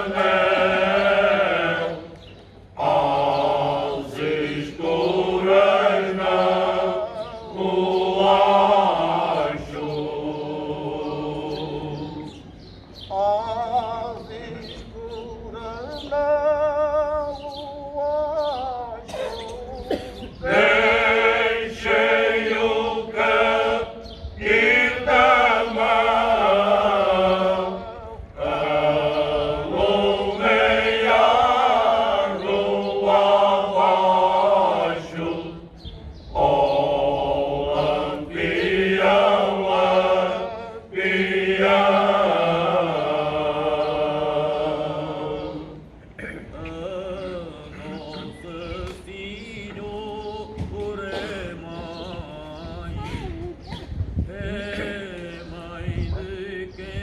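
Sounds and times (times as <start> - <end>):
male choir singing unaccompanied: 0.0 - 53.0, 54.2 - 57.0.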